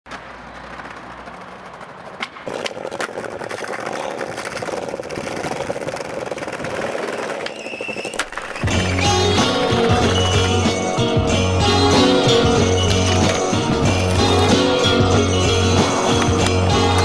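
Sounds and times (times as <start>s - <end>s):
skateboard wheels rolling on bricks: 0.1s - 17.0s.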